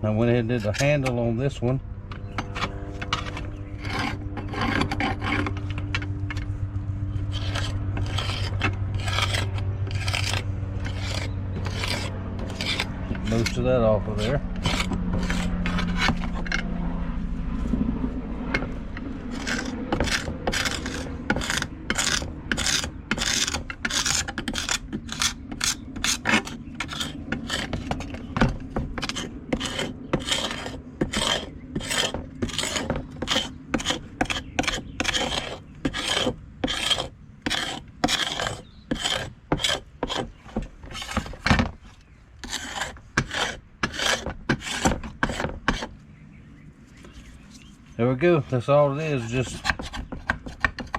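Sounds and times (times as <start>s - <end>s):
paint scraping strokes: 2.6s - 16.6s, 18.6s - 46.0s, 46.8s - 50.6s.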